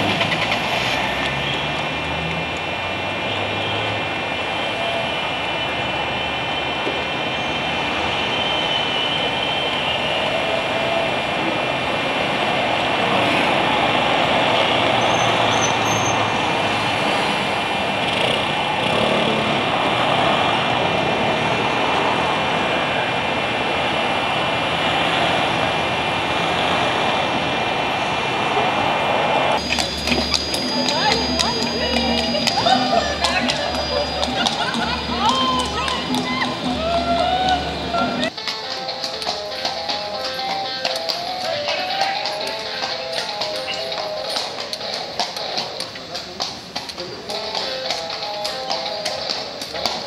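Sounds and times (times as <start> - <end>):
cars driving past: 0.0 - 50.0.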